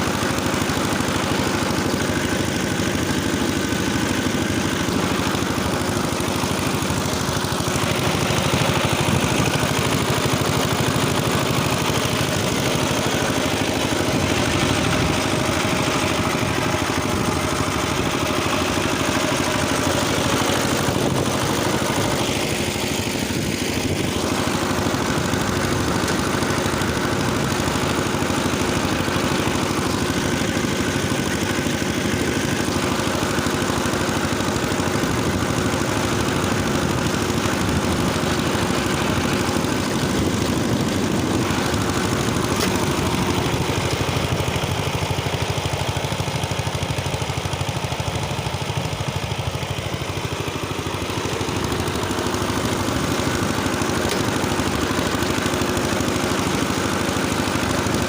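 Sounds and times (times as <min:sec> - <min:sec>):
rotary tiller engine running: 0:00.0 - 0:58.0.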